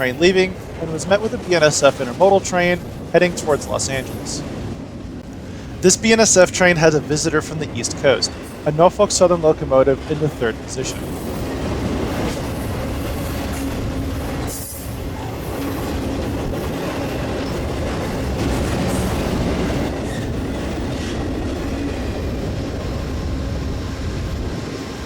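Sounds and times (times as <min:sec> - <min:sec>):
freight train wheels clattering: 0:00.0 - 0:24.7.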